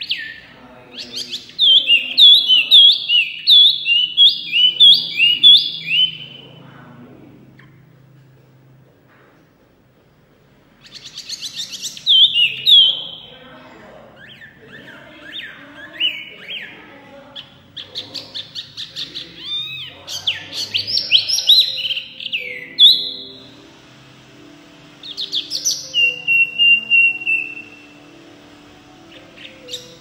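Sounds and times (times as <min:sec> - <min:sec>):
songbird singing whistled notes: 0:00.0 - 0:06.6, 0:10.8 - 0:13.3, 0:14.1 - 0:23.7, 0:24.4 - 0:30.0.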